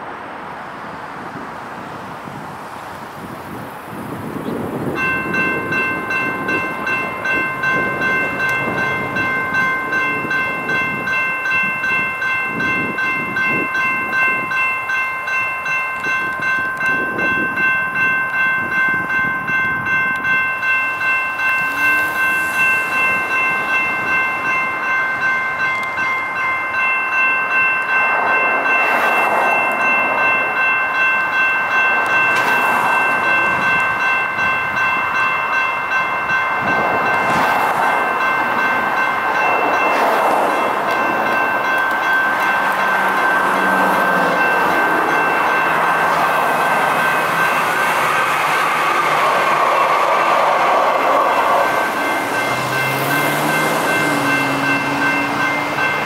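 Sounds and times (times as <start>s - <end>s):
electronic crossing bell ringing: 4.4s - 56.0s.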